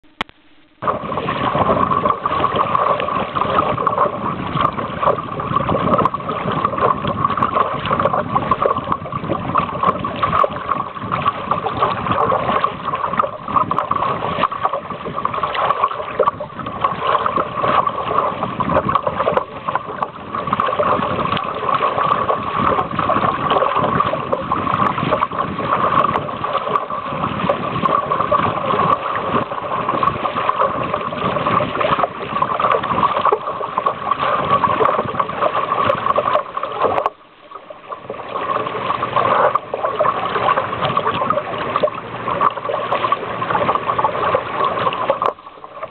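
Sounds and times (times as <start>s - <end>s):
water rushing along a hull: 0.0s - 45.9s.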